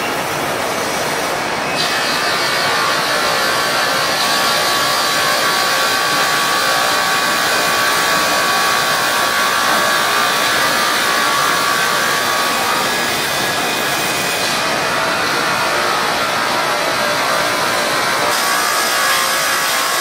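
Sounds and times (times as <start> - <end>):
production line machinery running: 0.0 - 20.0
steady high machine whine: 0.0 - 20.0.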